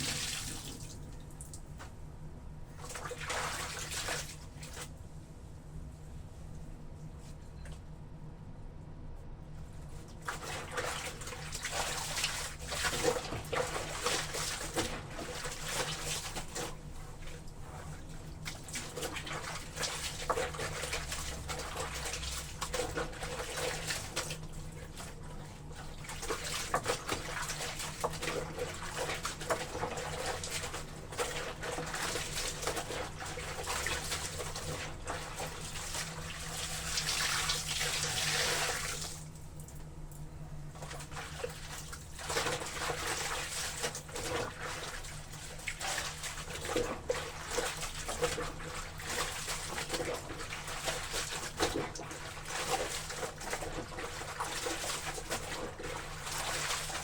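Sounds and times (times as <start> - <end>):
wet laundry sloshing in water: 0.0 - 1.8, 2.7 - 5.0, 9.6 - 57.0.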